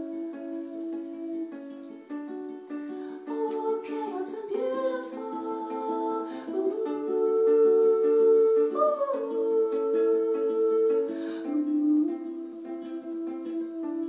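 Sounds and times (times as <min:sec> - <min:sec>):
woman singing long notes: 0:00.0 - 0:02.0, 0:03.3 - 0:14.0
ukulele strumming: 0:00.0 - 0:14.0.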